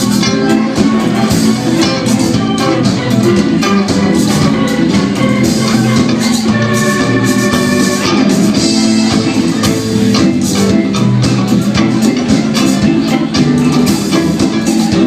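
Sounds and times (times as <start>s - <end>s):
live band playing: 0.0s - 15.0s
steady drum beat: 0.0s - 15.0s.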